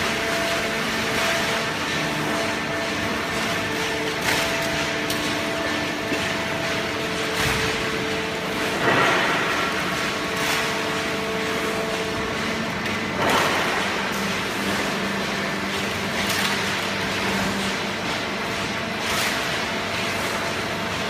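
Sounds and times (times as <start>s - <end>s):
hydraulic baler humming: 0.0s - 21.0s.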